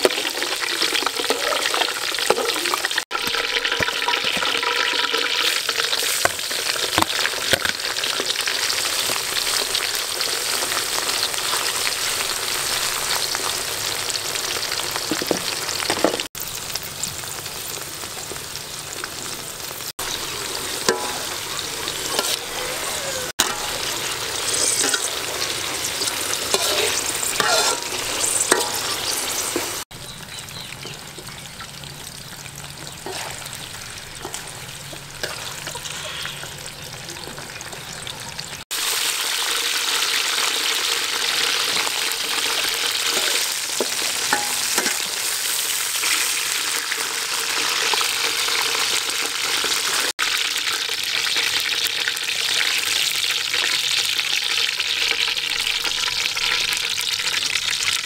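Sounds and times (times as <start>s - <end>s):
oil sizzling in a wok: 0.0s - 58.0s.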